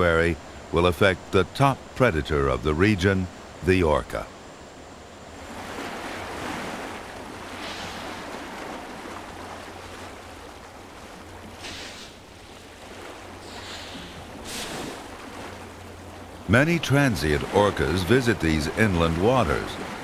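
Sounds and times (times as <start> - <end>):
waves washing: 0.0 - 20.0.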